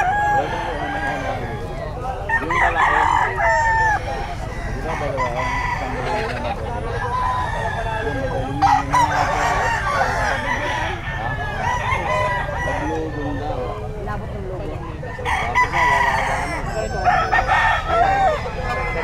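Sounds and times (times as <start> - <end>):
chickens clucking: 0.0 - 19.0
roosters crowing: 0.0 - 19.0.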